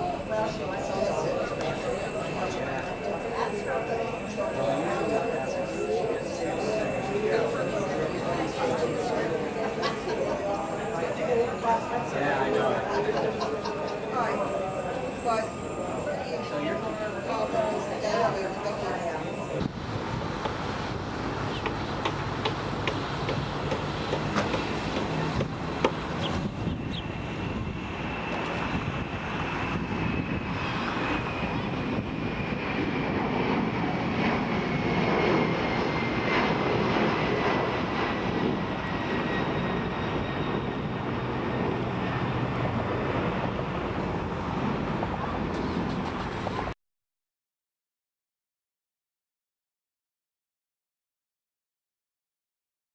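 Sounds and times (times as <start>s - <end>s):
jet engines whining: 0.0s - 46.8s.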